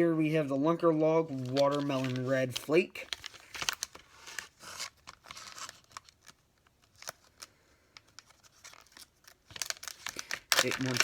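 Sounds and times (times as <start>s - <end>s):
plastic packaging crinkling: 1.3s - 11.0s.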